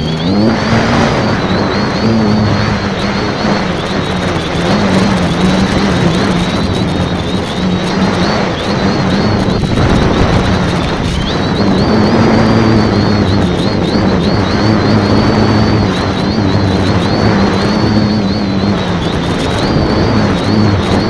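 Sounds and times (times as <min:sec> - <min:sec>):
drone motors and propellers buzzing: 0:00.0 - 0:21.0.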